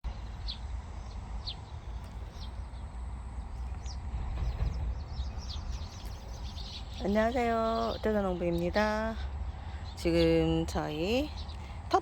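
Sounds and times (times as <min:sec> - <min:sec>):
steady low rumble: 0:00.0 - 0:12.0
birds chirping: 0:00.1 - 0:12.0.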